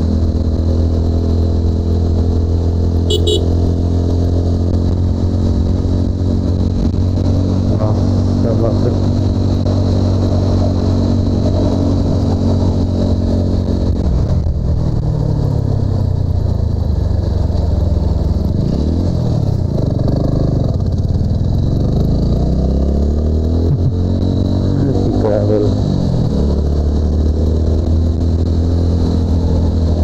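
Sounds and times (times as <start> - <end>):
motorcycle engine revving: 0.0 - 15.8, 17.2 - 30.0.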